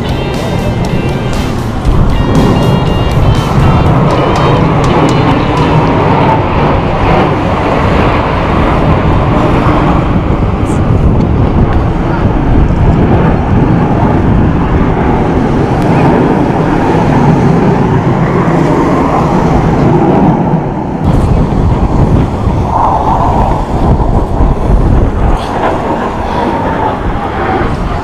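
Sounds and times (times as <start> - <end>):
jet roar flying past: 0.0 - 28.0.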